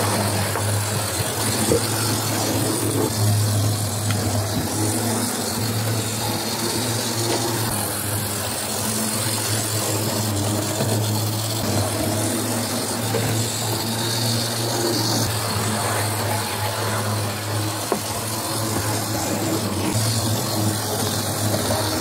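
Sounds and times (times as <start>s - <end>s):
model train motor humming: 0.0s - 22.0s.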